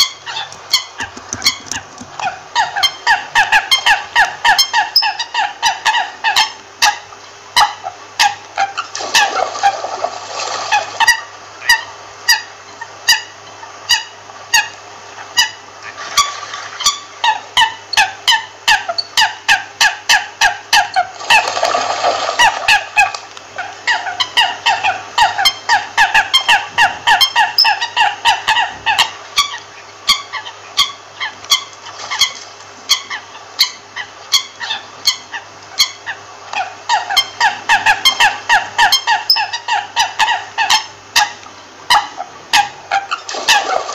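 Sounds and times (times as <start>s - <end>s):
coots calling: 0.0s - 9.9s, 10.6s - 43.9s.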